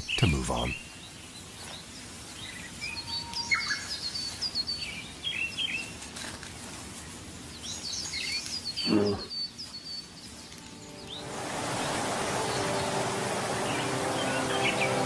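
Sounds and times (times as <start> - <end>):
birds chirping: 0.0 - 6.0, 7.4 - 15.0
steady outdoor hiss: 0.0 - 15.0.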